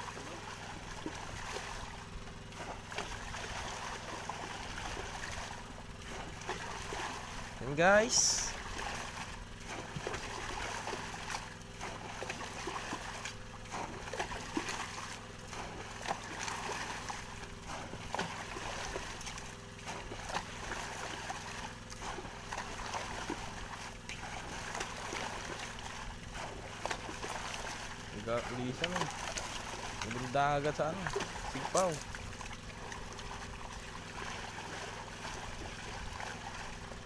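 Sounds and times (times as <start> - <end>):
steady low hum: 0.0 - 37.0
water splashing and sloshing: 0.0 - 37.0.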